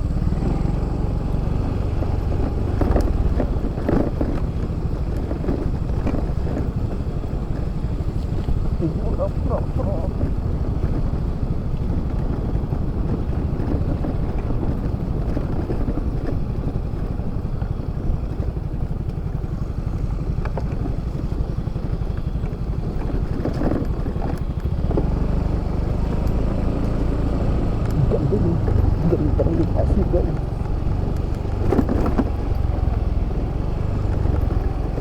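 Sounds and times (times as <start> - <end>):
road rumble: 0.0 - 35.0
scooter engine: 0.0 - 35.0.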